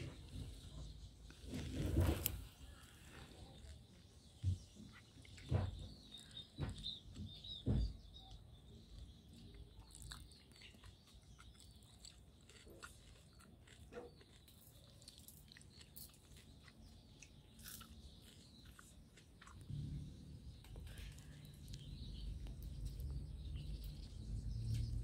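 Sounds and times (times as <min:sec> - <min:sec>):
person chewing and crunching food: 0:01.2 - 0:07.6, 0:08.2 - 0:24.2.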